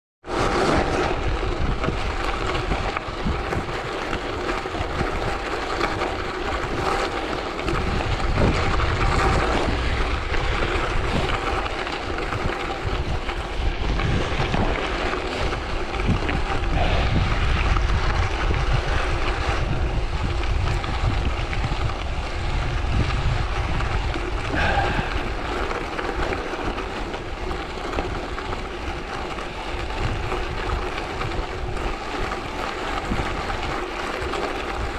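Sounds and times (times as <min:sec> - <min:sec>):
bicycle tyres on gravel: 0:00.2 - 0:34.9
wind buffeting microphone: 0:00.3 - 0:34.9.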